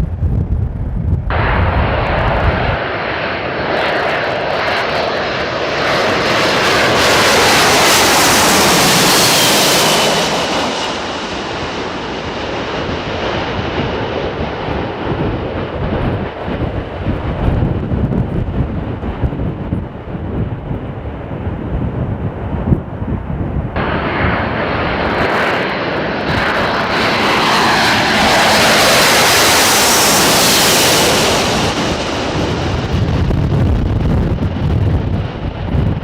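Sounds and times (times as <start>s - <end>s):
jet airliner flying past: 0.0s - 36.0s
wind rumbling on microphone: 0.0s - 36.0s.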